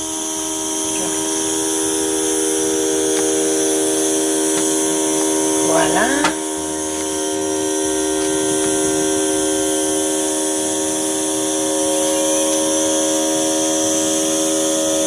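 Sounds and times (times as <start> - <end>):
vacuum pump humming: 0.0 - 15.0.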